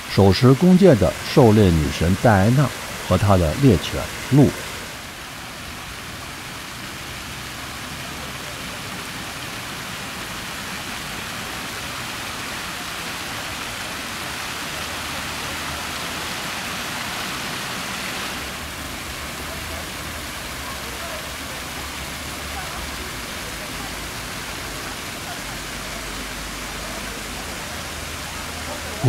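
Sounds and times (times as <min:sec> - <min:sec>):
fountain water splashing: 0:00.0 - 0:29.0.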